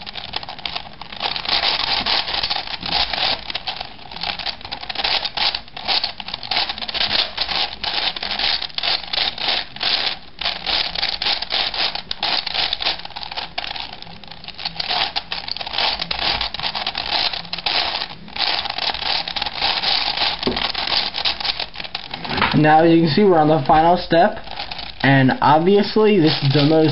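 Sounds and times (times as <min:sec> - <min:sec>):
puzzle cube clicking and scraping: 0:00.0 - 0:26.9.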